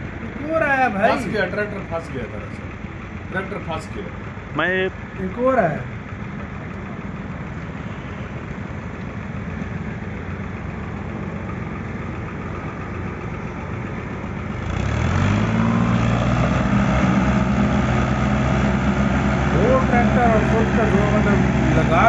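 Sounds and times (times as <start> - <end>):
diesel tractor engines under load: 0.0 - 22.0.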